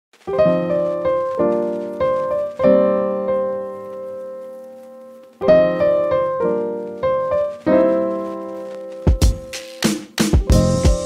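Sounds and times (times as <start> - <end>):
slow piano chords: 0.2 - 11.0.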